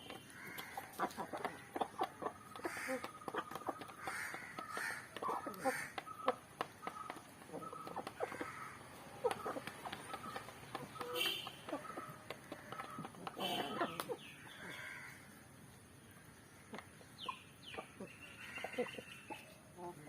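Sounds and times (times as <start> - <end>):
bird calls: 0.0 - 15.4, 16.0 - 20.0
chickens clucking: 0.0 - 20.0.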